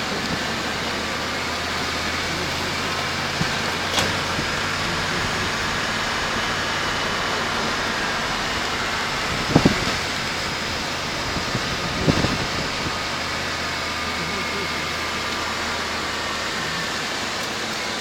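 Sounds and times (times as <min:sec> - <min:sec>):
car engine hum and road noise: 0:00.0 - 0:18.0.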